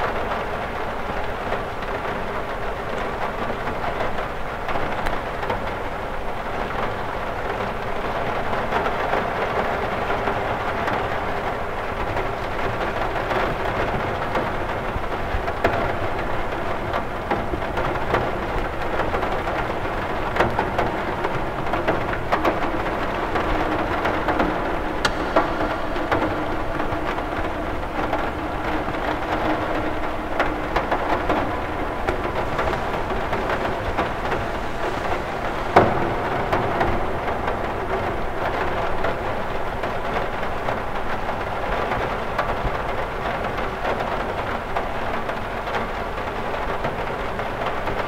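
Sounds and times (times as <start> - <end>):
rain on a window: 0.0 - 48.0
raindrop taps: 6.7 - 48.0.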